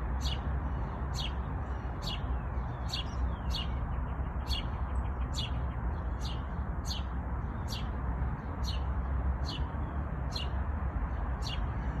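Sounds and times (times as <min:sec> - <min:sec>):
bird chirping: 0:00.1 - 0:10.6, 0:11.2 - 0:12.0.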